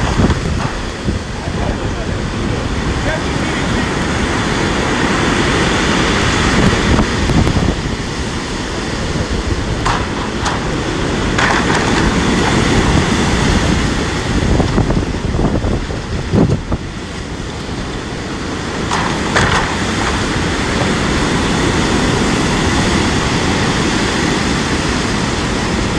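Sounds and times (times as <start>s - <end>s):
sea waves breaking: 0.0s - 25.9s
wind buffeting microphone: 0.0s - 25.9s.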